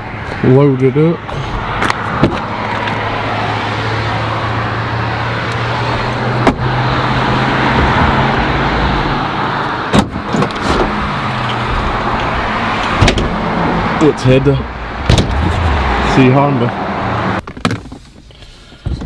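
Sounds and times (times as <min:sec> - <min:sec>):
vehicle engine hum: 0:00.0 - 0:17.5
road noise: 0:00.0 - 0:18.8.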